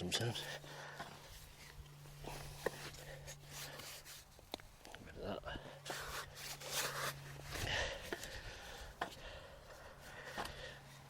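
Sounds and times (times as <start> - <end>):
dry soil rustling and scraping: 0.0 - 11.0.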